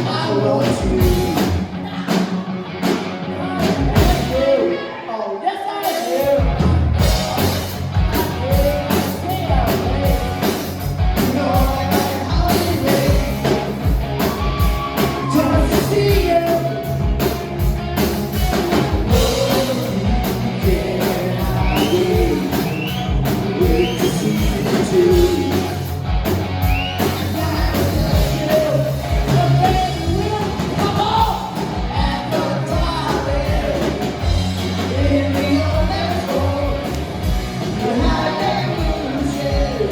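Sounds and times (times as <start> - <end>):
lead singer singing: 0.0 - 2.5, 3.2 - 17.2, 18.9 - 25.9, 26.7 - 39.9
steady drum beat: 0.0 - 4.4, 5.8 - 39.9
bass guitar: 0.0 - 5.1, 6.1 - 39.9
live rock band playing: 0.0 - 39.9.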